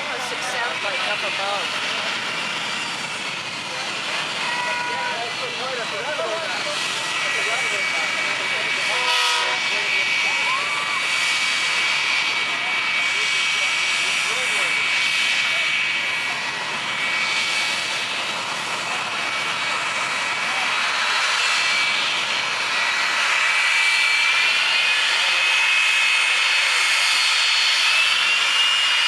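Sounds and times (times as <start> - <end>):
jet turbine engine whine: 0.0 - 29.0.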